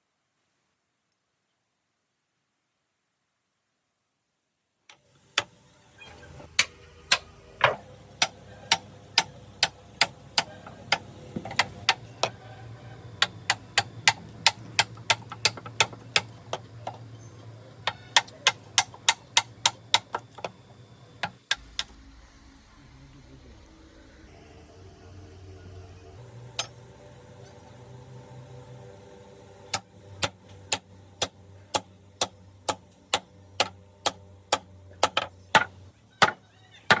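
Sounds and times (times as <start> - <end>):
low steady hum: 5.5 - 37.0.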